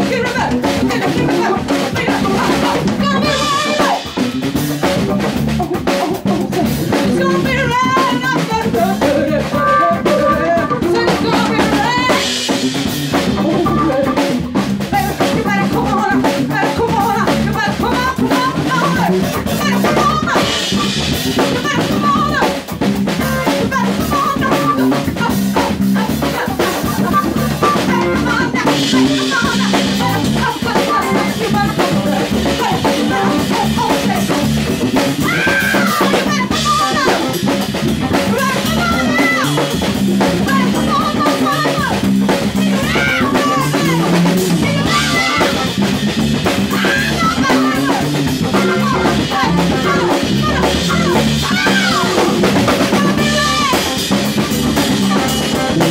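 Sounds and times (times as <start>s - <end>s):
woman singing: 0.0s - 4.3s, 5.7s - 55.9s
blues band playing: 0.0s - 55.9s.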